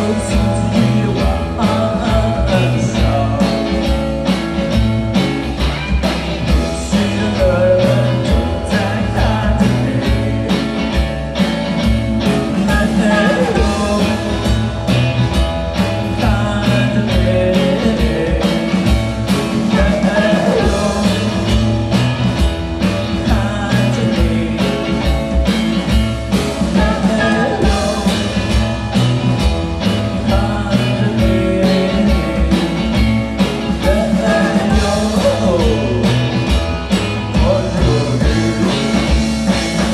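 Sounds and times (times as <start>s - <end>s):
drum beat: 0.0s - 39.9s
rock band playing live: 0.0s - 39.9s.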